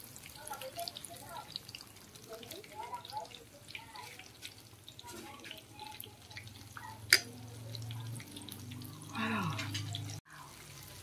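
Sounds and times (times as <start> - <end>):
oil crackling and popping: 0.0 - 11.0.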